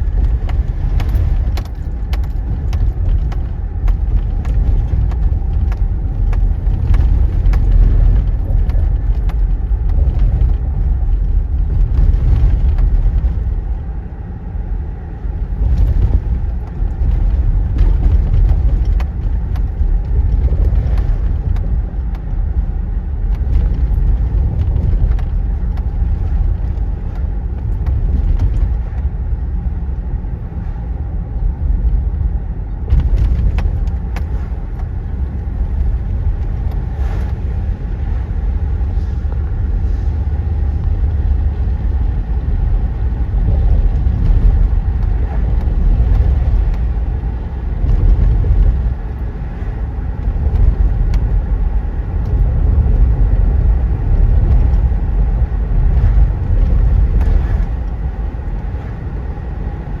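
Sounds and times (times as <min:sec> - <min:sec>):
freight train rumbling: 0:00.0 - 1:00.0.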